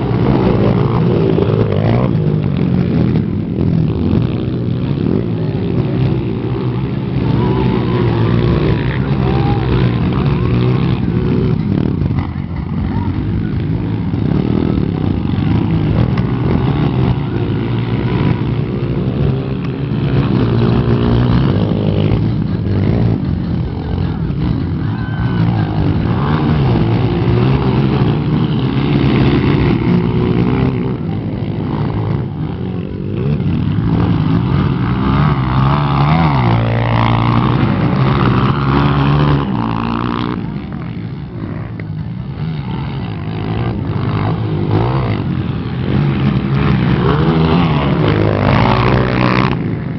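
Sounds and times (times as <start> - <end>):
motocross motorcycle engines racing: 0.0 - 49.9.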